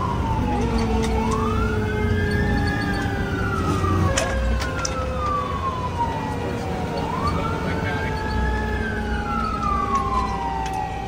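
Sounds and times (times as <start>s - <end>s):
fire engine wail siren: 0.0s - 11.0s
truck engine rumble: 0.0s - 11.0s.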